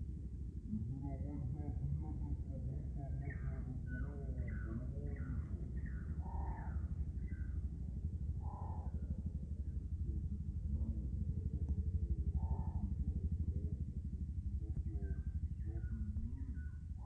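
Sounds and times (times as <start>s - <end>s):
engine rumble: 0.0s - 17.0s
birds chirping: 0.7s - 17.0s.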